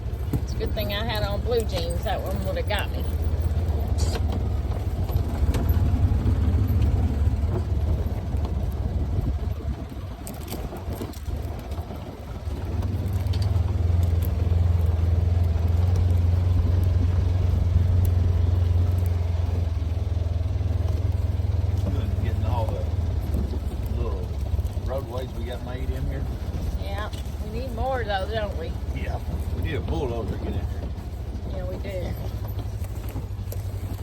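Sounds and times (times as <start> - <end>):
farm vehicle engine running: 0.0 - 34.0.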